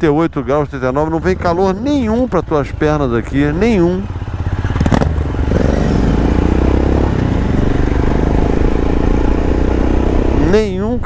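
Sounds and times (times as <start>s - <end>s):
motorcycle engine running: 0.2s - 11.0s.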